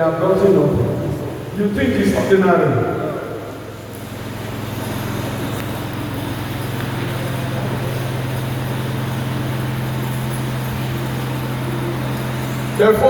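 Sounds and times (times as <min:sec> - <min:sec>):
continuous rushing noise: 0:00.0 - 0:13.0
steady low hum: 0:00.0 - 0:13.0.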